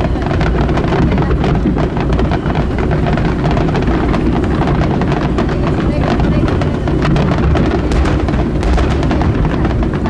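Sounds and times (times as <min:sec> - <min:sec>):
fireworks crackling: 0:00.0 - 0:10.0
wind buffeting microphone: 0:00.0 - 0:10.0.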